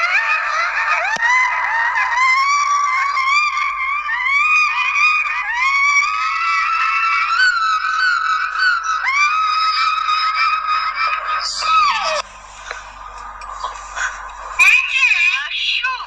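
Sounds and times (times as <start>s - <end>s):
high-pitched voice-like squealing: 0.0s - 12.2s, 13.6s - 16.0s.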